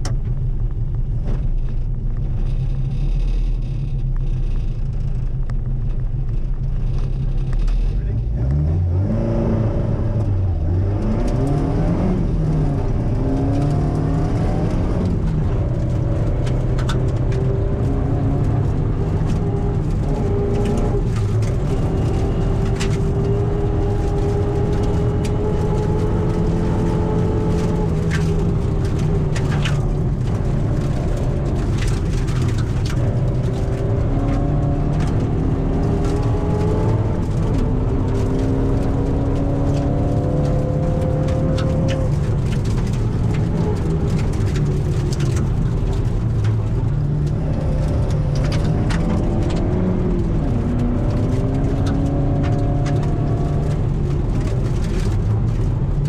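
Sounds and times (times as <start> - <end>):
car engine revving through gears: 0.0 - 56.0.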